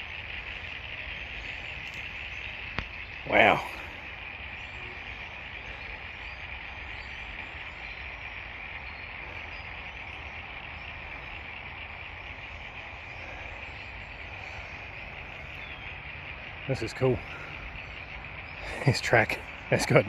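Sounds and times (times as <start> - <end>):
distant road traffic rumble: 0.0 - 20.0
insects chirring: 0.0 - 20.0.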